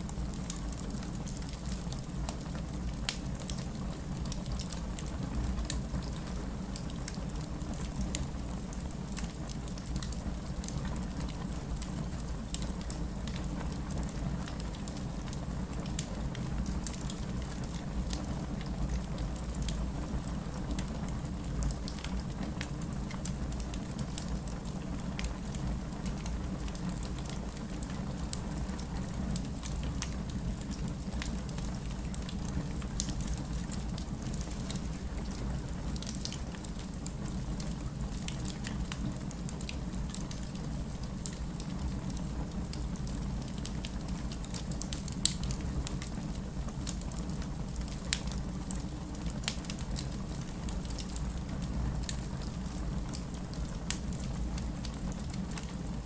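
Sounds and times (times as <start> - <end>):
fire crackles and pops: 0.0 - 56.0
fire low rumble: 0.0 - 56.0.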